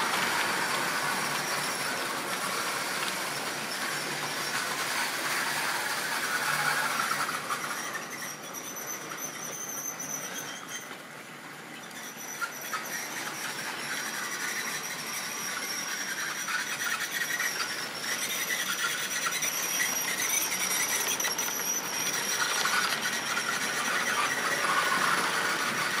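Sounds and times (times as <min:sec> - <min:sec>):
model train motor whine: 0:00.0 - 0:26.0
small wheels rattling on track: 0:00.0 - 0:26.0.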